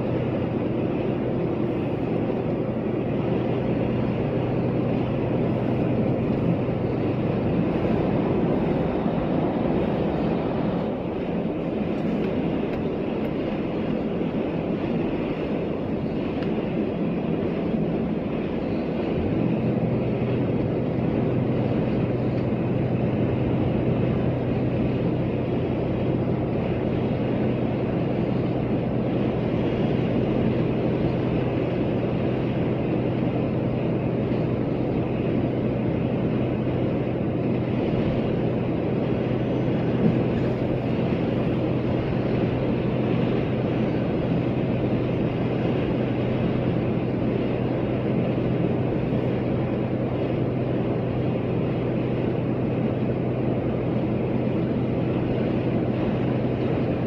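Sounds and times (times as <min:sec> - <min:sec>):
van engine hum and road noise: 0:00.0 - 0:57.0.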